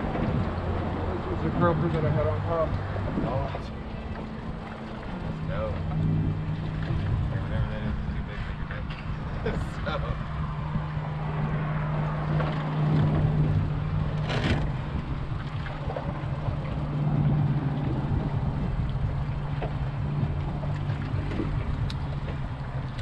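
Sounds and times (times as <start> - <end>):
steady low hum: 0.0 - 23.0
wind buffeting microphone: 0.0 - 23.0.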